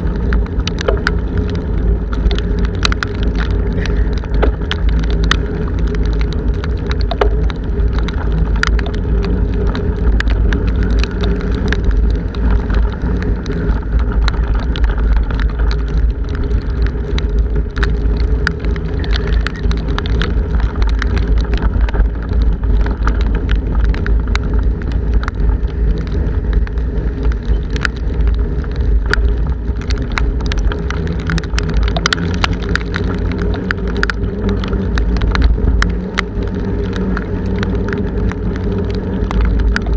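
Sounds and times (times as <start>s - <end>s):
rain ticking on camera: 0.0s - 39.9s
wind buffeting microphone: 0.0s - 39.9s.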